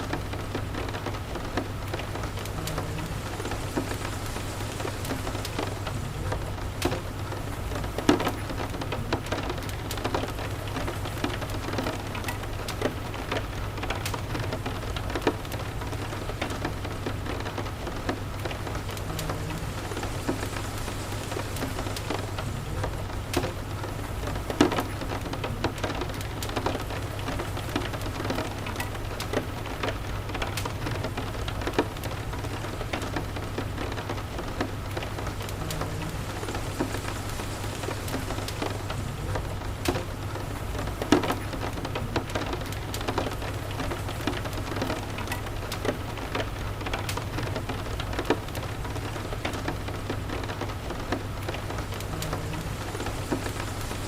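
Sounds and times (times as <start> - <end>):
raindrop taps: 0.0 - 54.0
steady rain patter: 0.0 - 54.0.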